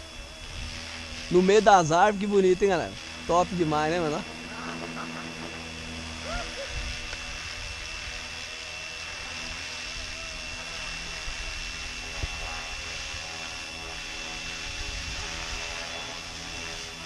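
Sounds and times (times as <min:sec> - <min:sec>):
helicopter rotor blades whirring: 0:00.0 - 0:17.0
high motor whine: 0:00.0 - 0:17.0.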